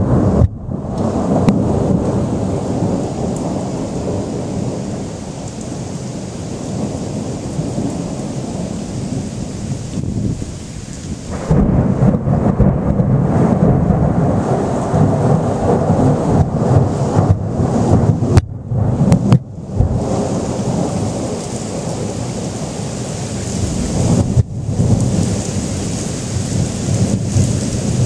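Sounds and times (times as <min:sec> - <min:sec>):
rolling thunder rumbling: 0:00.0 - 0:28.0.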